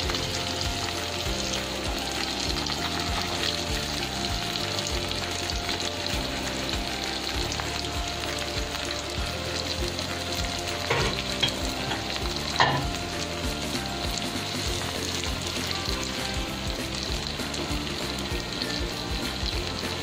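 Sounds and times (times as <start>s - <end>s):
fish sizzling in a pan: 0.0s - 20.0s.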